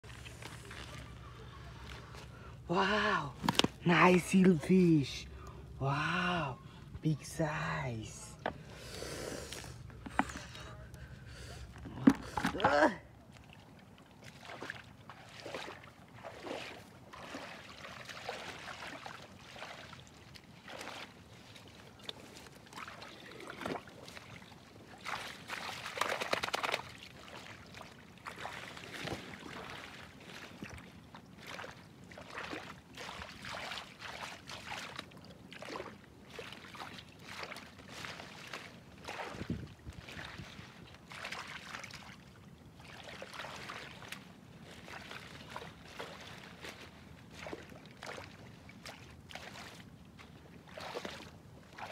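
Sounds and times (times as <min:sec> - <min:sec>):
muddy water splashing: 0:00.0 - 0:51.9.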